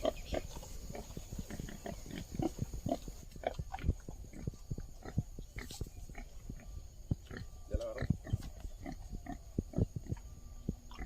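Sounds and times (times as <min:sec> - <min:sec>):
short animal noises: 0:00.0 - 0:11.0.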